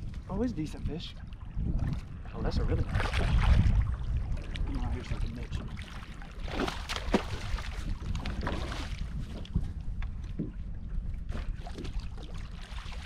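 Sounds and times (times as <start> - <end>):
wind rumbling on microphone: 0.0 - 13.0
water splashing against kayak: 1.1 - 13.0.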